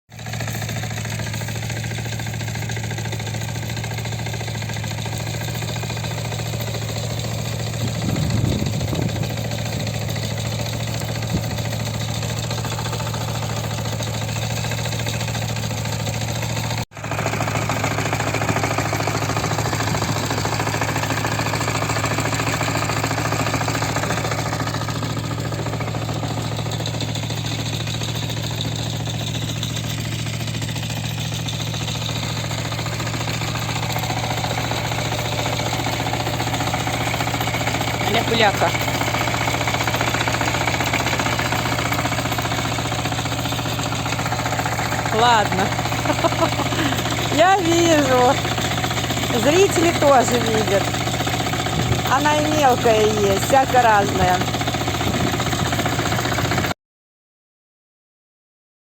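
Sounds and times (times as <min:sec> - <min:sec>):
tractor engine running: 0:00.1 - 0:56.8.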